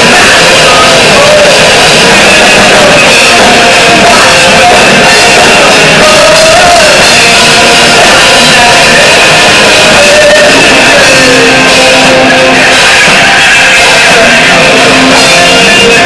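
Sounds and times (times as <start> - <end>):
heavy rock band playing: 0.0 - 16.0
person singing: 0.0 - 16.0.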